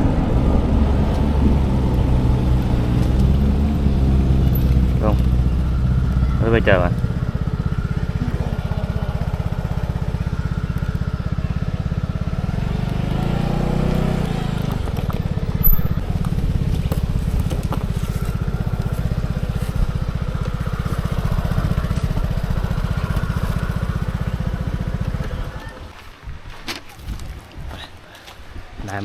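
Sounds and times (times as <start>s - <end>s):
scooter engine running: 0.0s - 26.0s.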